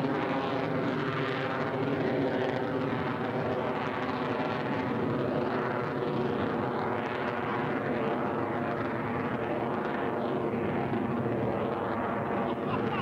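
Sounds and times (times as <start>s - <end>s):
jet engine roar overhead: 0.0s - 13.0s.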